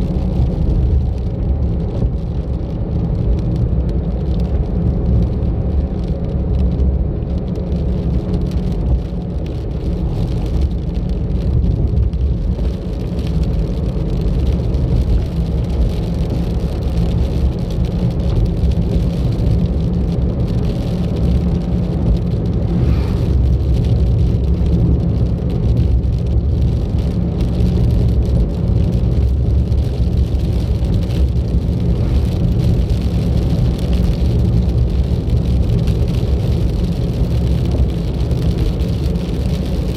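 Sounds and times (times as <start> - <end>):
car engine rumble: 0.0 - 39.9
tyre road noise: 0.0 - 39.9.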